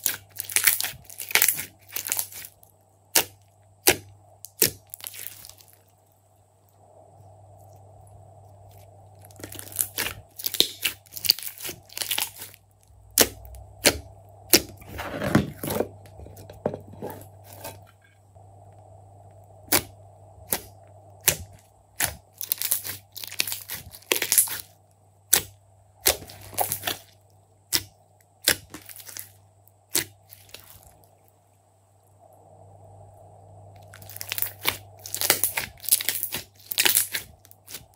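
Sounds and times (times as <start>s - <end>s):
faint hum: 0.0s - 37.9s.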